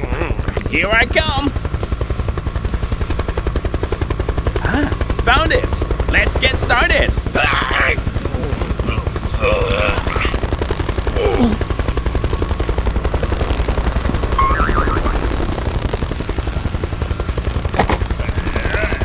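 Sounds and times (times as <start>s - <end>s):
small engine chugging: 0.5s - 19.0s.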